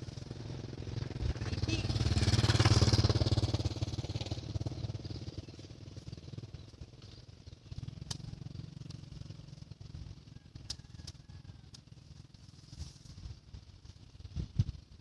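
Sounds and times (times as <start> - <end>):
motorcycle engine passing by: 0.0 - 13.1.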